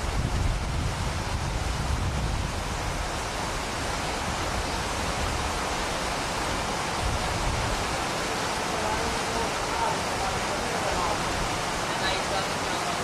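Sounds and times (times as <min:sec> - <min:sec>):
wind buffeting microphone: 0:00.0 - 0:12.7
river water rushing: 0:00.0 - 0:13.0.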